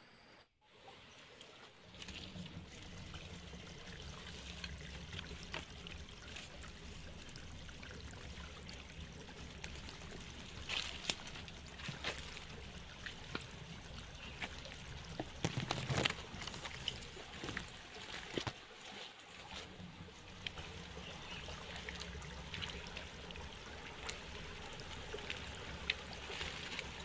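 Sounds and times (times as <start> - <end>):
stream trickling: 0.6 - 27.0.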